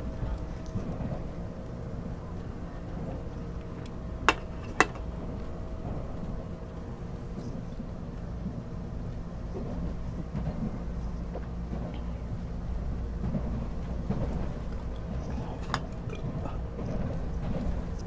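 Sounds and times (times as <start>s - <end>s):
faint hum: 0.0s - 18.0s
train cabin rumble: 0.0s - 18.0s.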